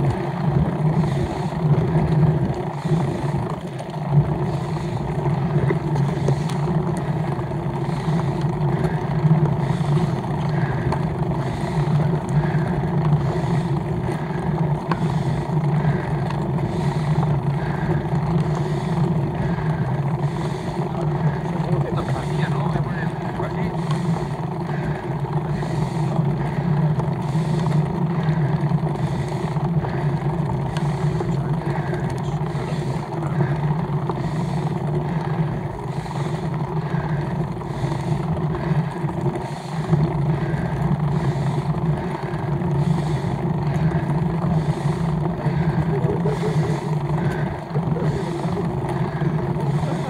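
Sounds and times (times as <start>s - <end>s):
bicycle tyres and drivetrain rumble: 0.0s - 50.0s
wind: 0.0s - 50.0s.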